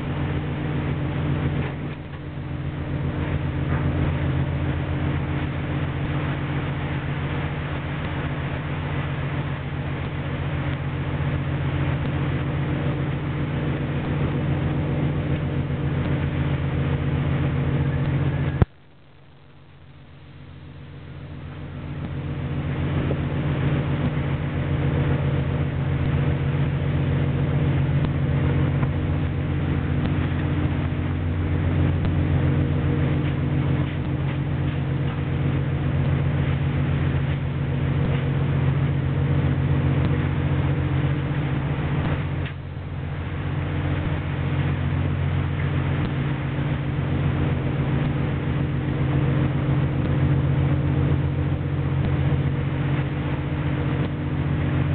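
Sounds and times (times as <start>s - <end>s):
wind and sea rushing: 0.0s - 18.7s, 21.0s - 54.9s
boat engine drone: 0.0s - 54.9s.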